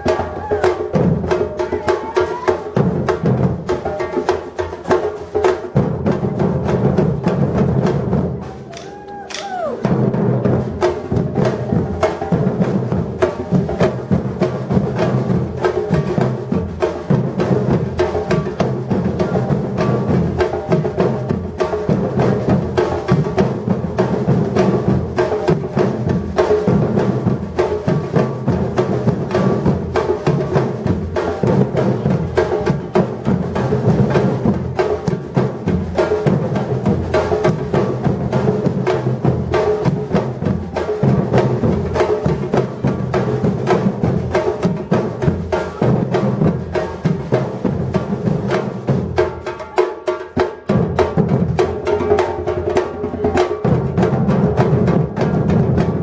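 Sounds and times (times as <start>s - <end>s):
percussion ensemble drumming: 0.0s - 56.0s.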